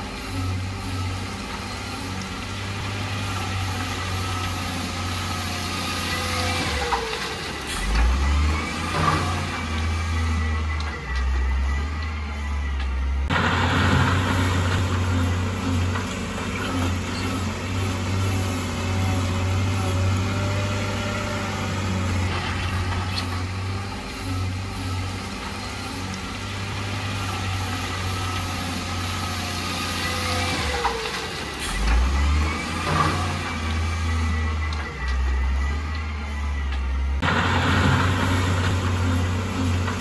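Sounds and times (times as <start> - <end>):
diesel construction machinery running: 0.0 - 40.0.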